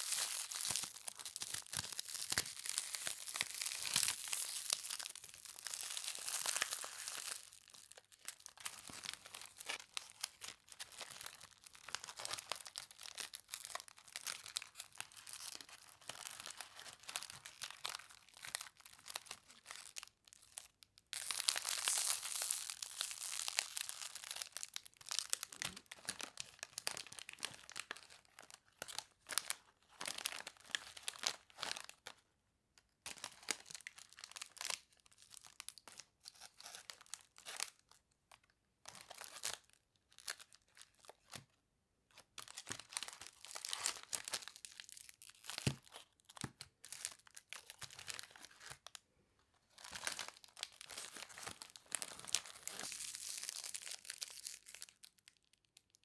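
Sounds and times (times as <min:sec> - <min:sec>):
cellophane bags crinkling: 0:00.0 - 0:32.1, 0:33.1 - 0:37.9, 0:42.4 - 0:49.0, 0:49.7 - 0:55.9.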